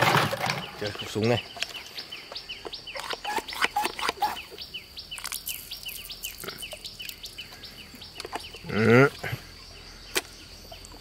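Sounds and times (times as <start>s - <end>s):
bird chirping: 0.1s - 11.0s
insect buzz: 1.1s - 11.0s.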